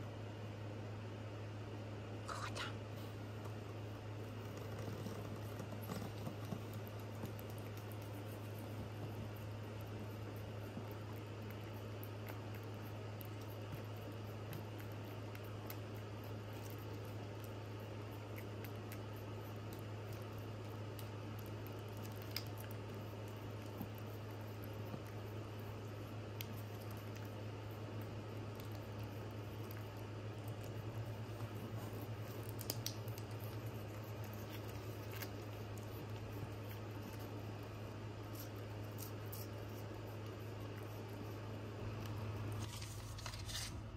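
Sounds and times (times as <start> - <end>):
steady low hum: 0.0 - 43.9
cat licking wet smacking: 5.8 - 41.4.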